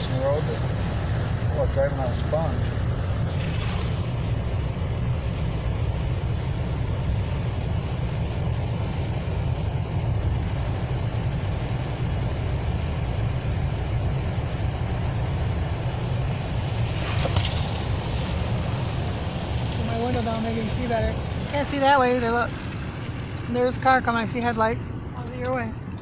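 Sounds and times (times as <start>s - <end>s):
car cabin road rumble: 0.0s - 26.0s.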